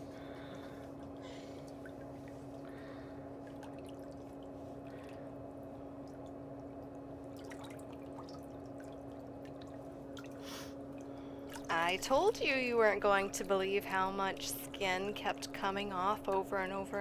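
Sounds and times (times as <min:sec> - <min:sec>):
low hum with faint hiss: 0:00.0 - 0:17.0.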